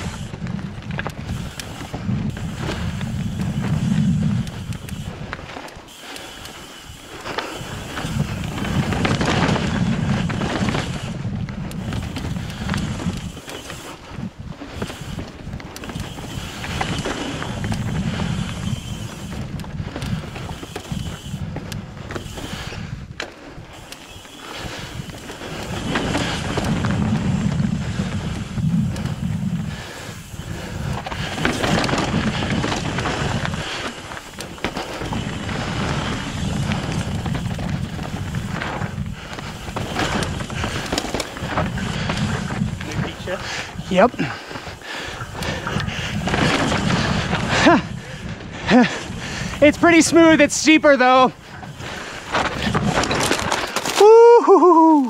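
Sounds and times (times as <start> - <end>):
bike tyres rattling on rock: 0.0 - 55.0
wind buffeting microphone: 0.0 - 55.0.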